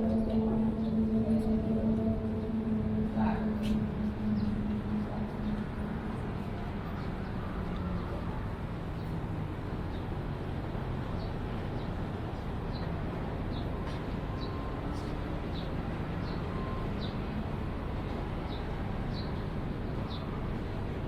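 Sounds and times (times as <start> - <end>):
low rumble of idling trains: 0.0 - 21.0.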